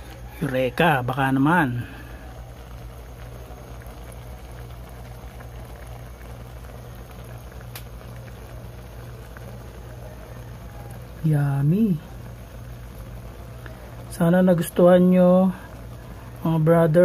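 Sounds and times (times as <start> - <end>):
broth bubbling in a wok: 0.0 - 17.0
steady low hum: 0.0 - 17.0.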